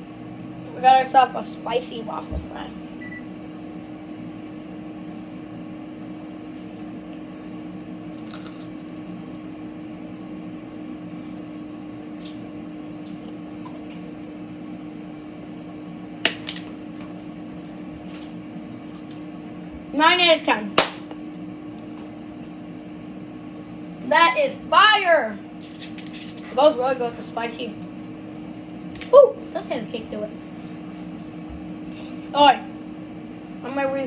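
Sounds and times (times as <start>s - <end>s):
kitchen appliance humming: 0.0s - 34.0s.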